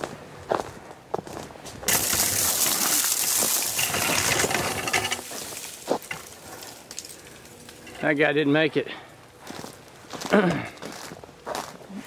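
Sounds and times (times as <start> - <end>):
crunching footstep: 0.0 - 8.2, 9.2 - 11.9
icy branches rustling and crackling: 1.8 - 11.7.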